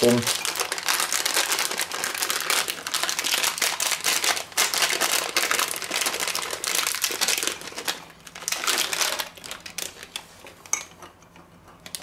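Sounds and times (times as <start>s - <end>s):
plastic packet crackling: 0.0s - 10.6s.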